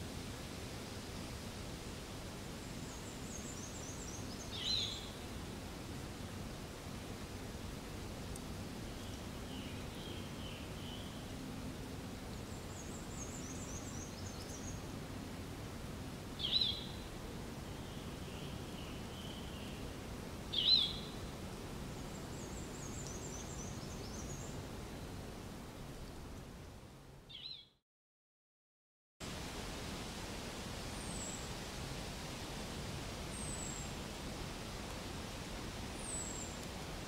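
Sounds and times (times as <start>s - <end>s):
outdoor background noise: 0.0s - 27.5s, 29.2s - 37.0s.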